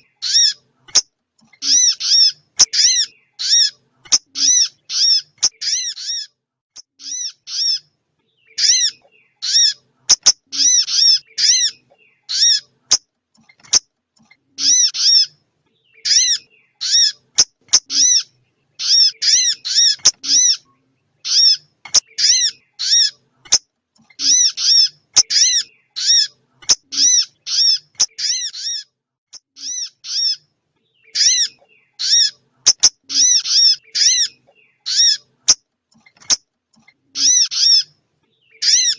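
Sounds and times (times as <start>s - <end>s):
high songbird chirps: 0.0s - 38.9s.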